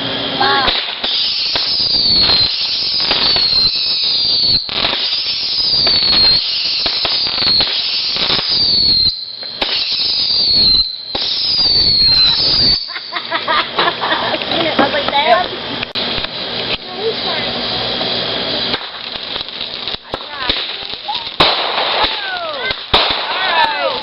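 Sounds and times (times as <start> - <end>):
whistling fireworks: 0.0 - 13.7, 15.8 - 24.0
fireworks crackling: 0.0 - 24.0.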